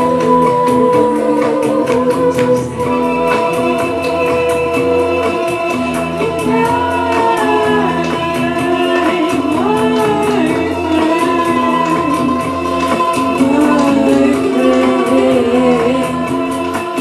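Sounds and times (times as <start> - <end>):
electronic backing with ticking beat: 0.0 - 17.0
woman singing long notes: 0.0 - 17.0.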